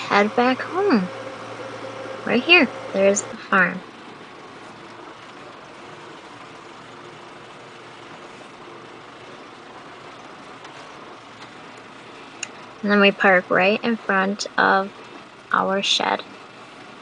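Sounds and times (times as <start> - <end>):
tractor engine running: 0.0 - 16.2.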